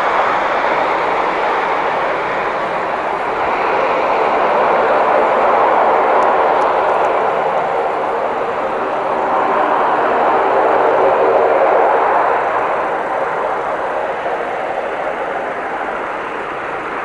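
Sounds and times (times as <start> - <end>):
turboprop engines running: 0.0 - 17.0.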